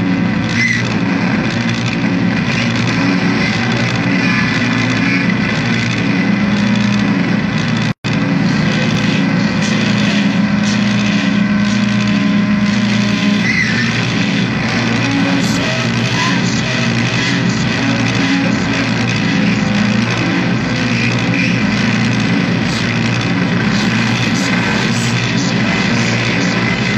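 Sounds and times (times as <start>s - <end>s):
dense wall of noise music: 0.0s - 26.9s
low droning hum: 0.0s - 26.9s.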